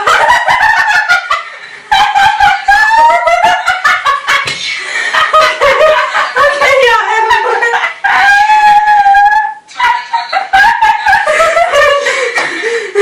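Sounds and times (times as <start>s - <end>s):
person giggling: 2.0s - 13.0s.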